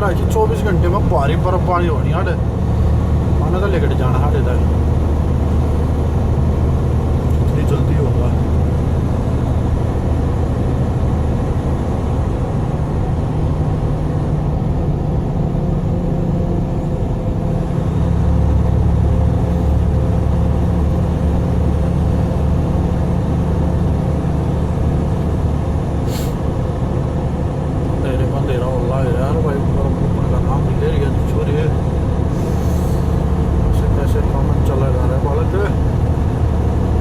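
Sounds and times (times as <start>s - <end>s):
vehicle engine and road drone: 0.0s - 37.0s.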